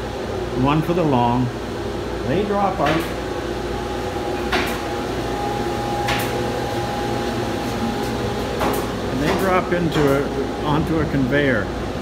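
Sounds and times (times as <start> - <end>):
woodworking machinery humming: 0.0 - 12.0.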